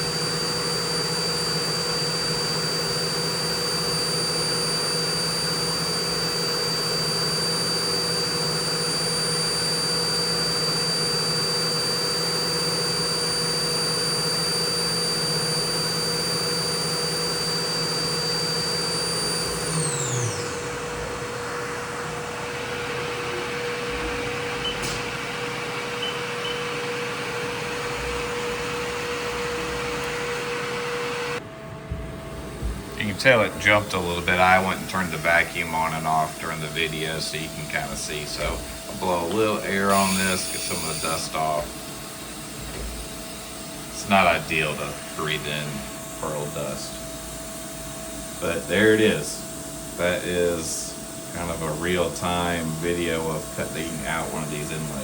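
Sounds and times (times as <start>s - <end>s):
milling spindle whining: 0.0s - 55.0s.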